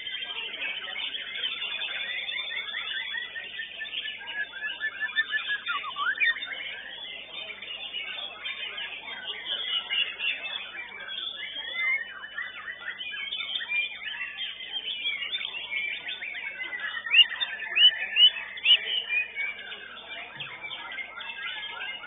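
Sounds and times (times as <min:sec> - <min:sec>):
bird singing chirps and whistles: 0:00.0 - 0:22.0
other caged birds singing: 0:00.0 - 0:22.0.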